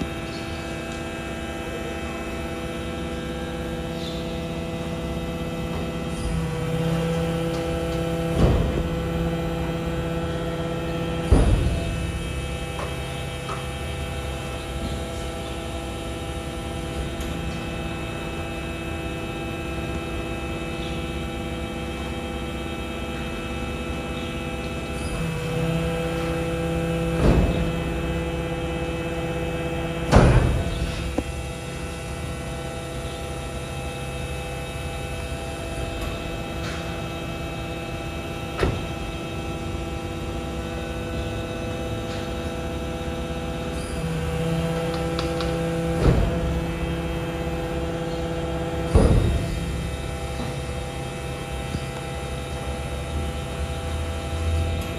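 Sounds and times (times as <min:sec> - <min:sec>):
electric truck humming: 0:00.0 - 0:54.9.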